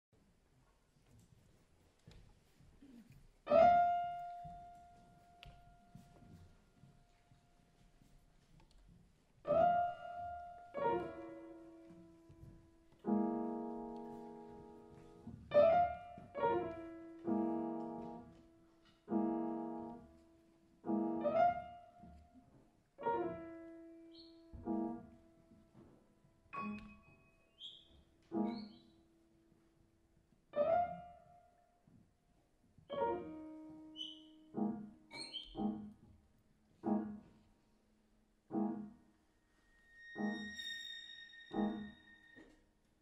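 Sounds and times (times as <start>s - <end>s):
slow piano chords: 2.8s - 42.6s.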